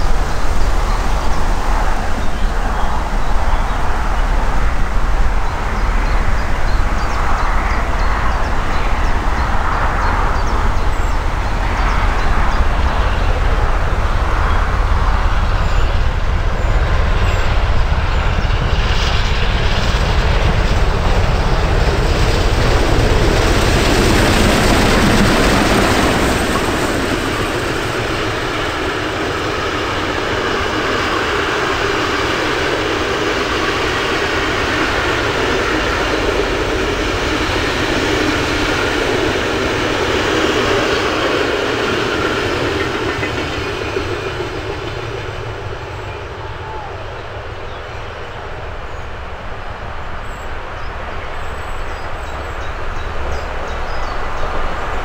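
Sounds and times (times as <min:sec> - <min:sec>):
steam locomotive exhaust beats: 0:00.0 - 0:55.0
train rumble and rail noise: 0:00.0 - 0:55.0.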